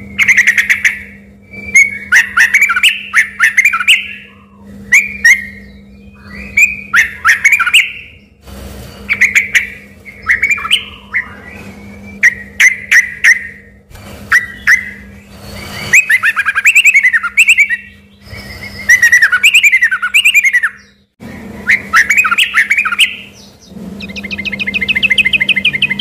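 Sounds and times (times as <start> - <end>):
bird singing fast phrases: 0.0 - 26.0
bird trill: 0.0 - 26.0.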